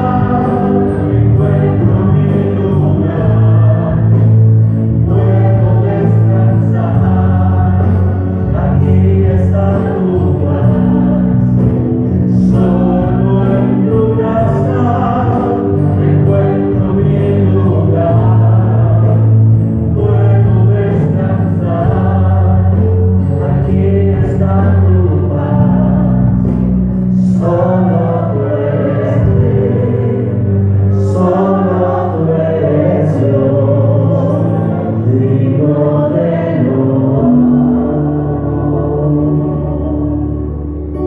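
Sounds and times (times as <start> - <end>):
choir singing gospel song: 0.0 - 41.0.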